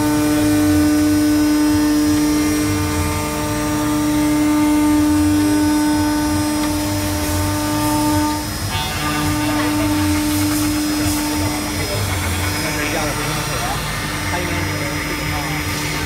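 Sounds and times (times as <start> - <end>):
cnc router spindle whine: 0.0 - 16.0
router bit cutting plastic sheet: 0.0 - 16.0.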